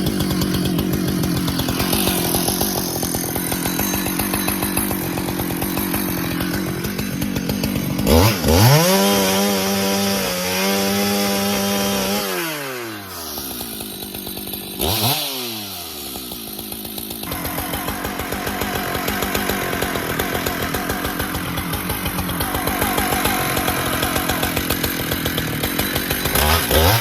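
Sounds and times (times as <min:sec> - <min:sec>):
chainsaw idling and revving: 0:00.0 - 0:27.0.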